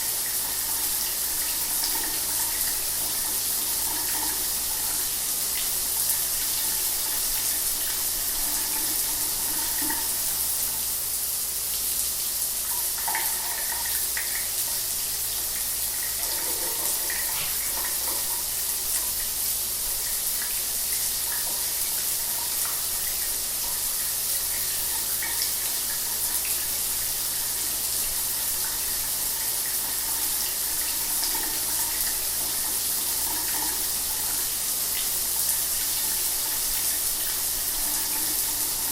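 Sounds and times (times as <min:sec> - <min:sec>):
shower water running: 0:00.0 - 0:38.9.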